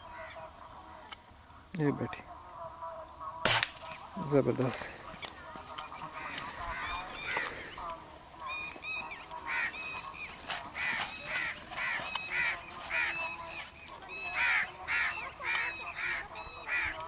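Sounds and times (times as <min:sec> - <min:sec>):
birds giving harsh calls: 0:00.0 - 0:17.0.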